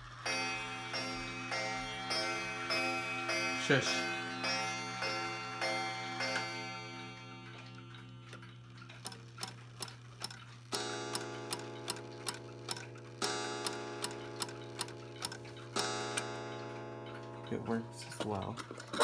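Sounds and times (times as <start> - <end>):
clock striking gong: 0.0 - 19.0
wall clock ticking: 0.0 - 19.0.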